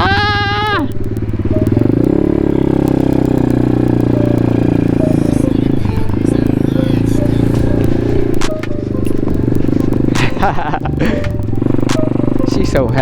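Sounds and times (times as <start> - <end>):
motorbike engine under throttle: 0.0 - 13.0.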